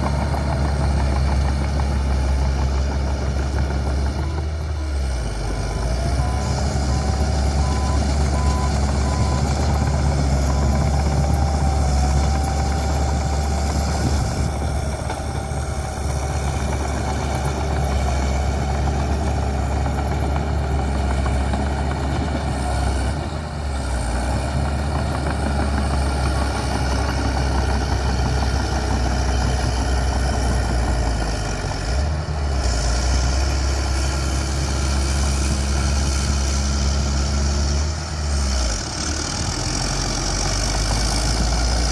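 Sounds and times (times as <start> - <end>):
bulldozer diesel engine rumbling: 0.0 - 41.9.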